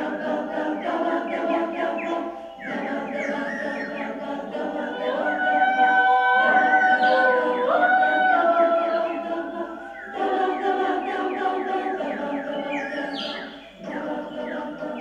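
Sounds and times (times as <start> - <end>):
women's choir singing a cappella: 0.0 - 15.0.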